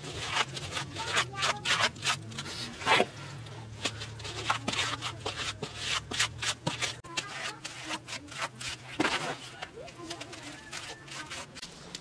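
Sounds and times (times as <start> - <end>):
hand smoothing wet mud plaster: 0.0 - 12.0.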